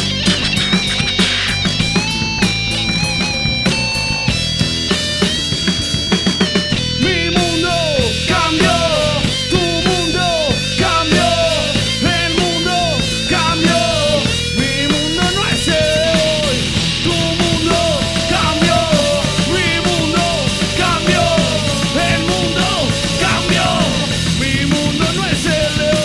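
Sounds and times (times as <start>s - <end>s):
pitch-bending melody line: 0.0s - 24.4s
live rock band playing: 0.0s - 26.0s.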